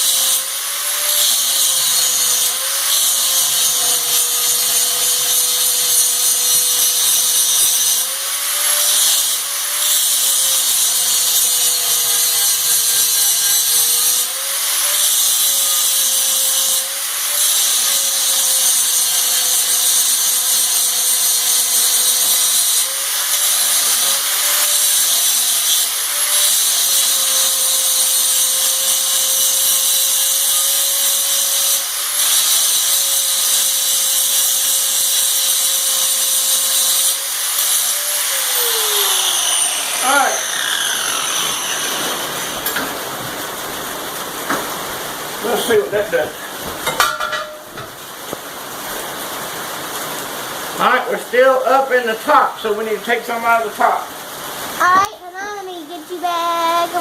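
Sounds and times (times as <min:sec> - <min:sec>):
power grinder grinding metal: 0:00.0 - 0:48.1, 0:50.7 - 0:57.0.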